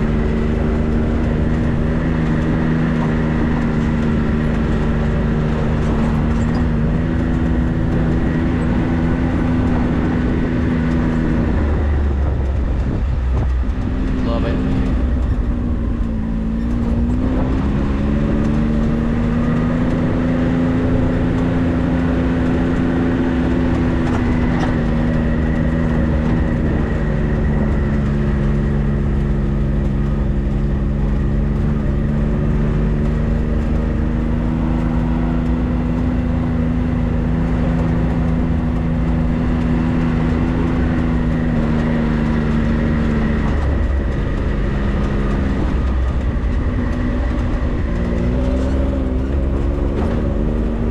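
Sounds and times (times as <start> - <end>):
road and tyre rumble: 0.0 - 50.9
vehicle engine running: 0.0 - 50.9.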